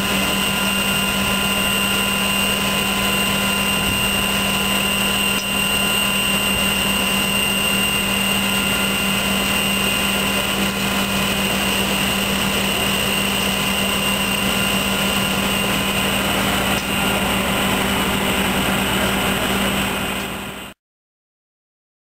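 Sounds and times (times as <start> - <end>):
fire engine pump hum: 0.0 - 20.8
high whine: 0.0 - 20.8.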